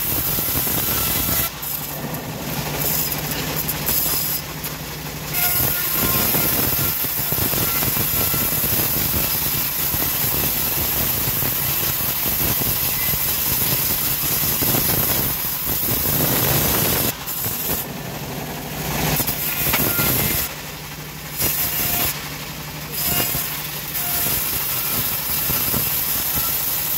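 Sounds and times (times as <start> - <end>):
bandsaw ripping wood: 0.0 - 18.0, 18.6 - 20.6, 21.3 - 22.2, 22.9 - 26.9
bandsaw humming unloaded: 0.0 - 26.9.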